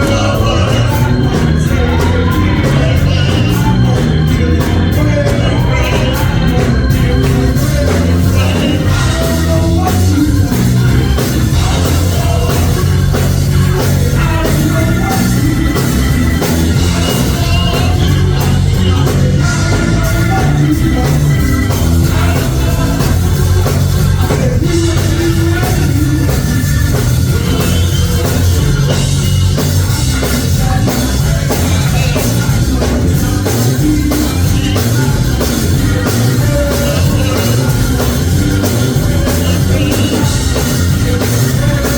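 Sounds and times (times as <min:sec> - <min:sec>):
drum kit: 0:00.0 - 0:41.9
heavy bass line: 0:00.0 - 0:41.9
praise band playing: 0:00.0 - 0:41.9.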